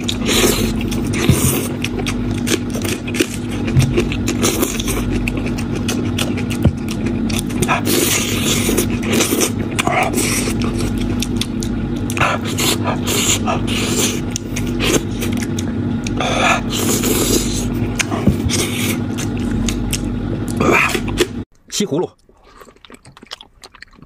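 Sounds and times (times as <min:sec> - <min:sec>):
wet chewing and slurping: 0:00.0 - 0:21.4, 0:22.2 - 0:24.0
steady low hum: 0:00.0 - 0:24.0.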